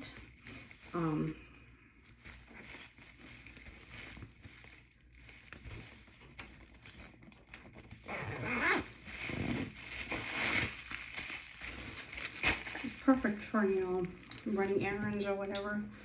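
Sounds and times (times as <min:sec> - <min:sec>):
straw bag rustling: 0:00.0 - 0:16.0.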